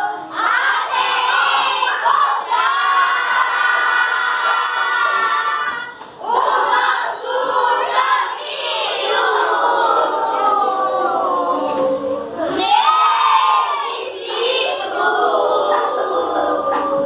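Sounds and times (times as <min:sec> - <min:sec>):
children singing in chorus: 0:00.0 - 0:17.0.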